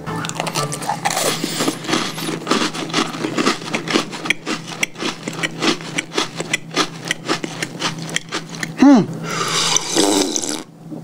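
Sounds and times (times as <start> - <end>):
chewing crunchy cookie: 0.2 - 10.7.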